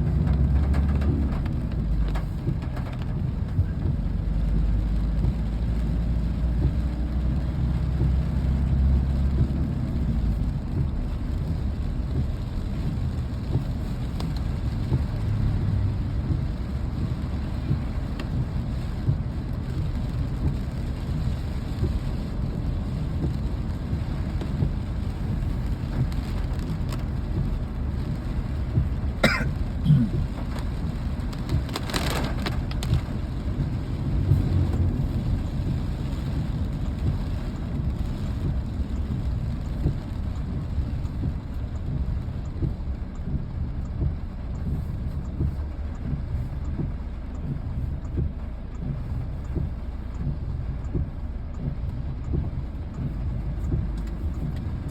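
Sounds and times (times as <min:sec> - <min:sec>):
low rumble: 0:00.0 - 0:54.9
steady rain: 0:00.0 - 0:54.9.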